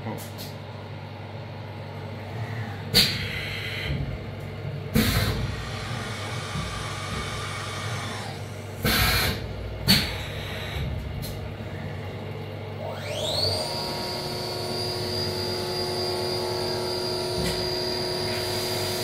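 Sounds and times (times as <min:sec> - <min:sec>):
milling machine humming: 0:00.6 - 0:19.0.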